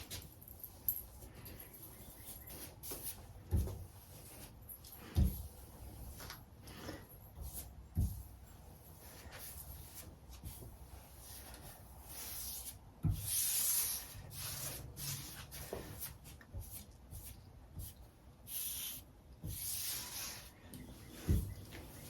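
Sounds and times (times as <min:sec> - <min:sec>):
brush strokes swishing: 0:02.0 - 0:22.0.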